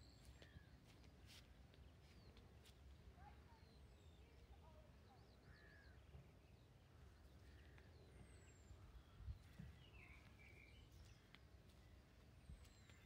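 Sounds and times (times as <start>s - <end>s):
soft bird chirps: 0.0s - 13.0s.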